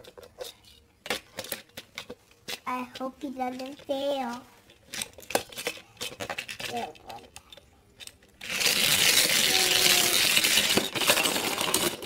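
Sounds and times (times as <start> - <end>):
toy train wheels rattling on plastic: 0.0 - 12.0.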